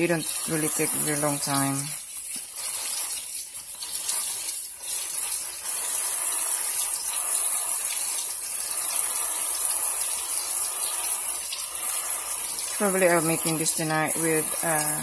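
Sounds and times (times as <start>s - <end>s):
tap water running into sink: 0.0s - 15.0s.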